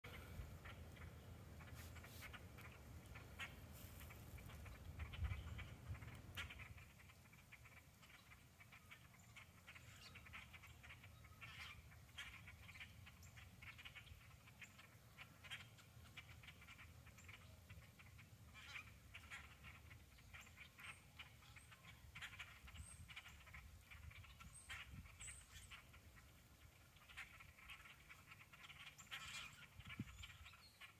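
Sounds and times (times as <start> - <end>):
flock of birds chattering: 0.0 - 30.9.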